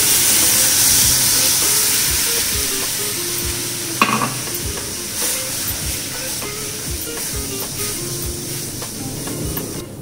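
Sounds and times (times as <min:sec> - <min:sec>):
milk sizzling in a hot pan: 0:00.0 - 0:10.0.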